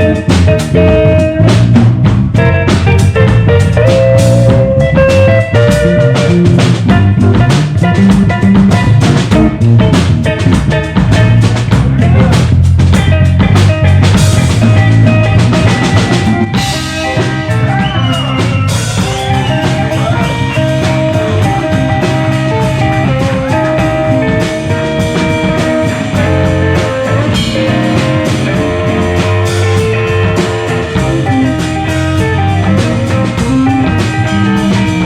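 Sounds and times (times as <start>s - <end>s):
busy drums: 0.0s - 35.0s
electric blues band playing: 0.0s - 35.0s
held bent guitar notes: 0.0s - 35.0s.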